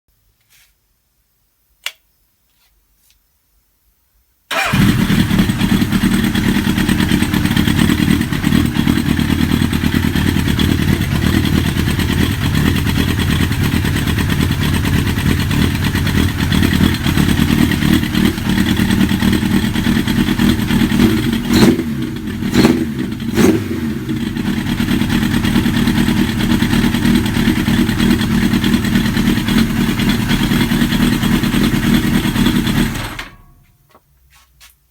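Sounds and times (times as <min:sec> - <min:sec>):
motorcycle engine idling and revving: 0:04.5 - 0:33.4.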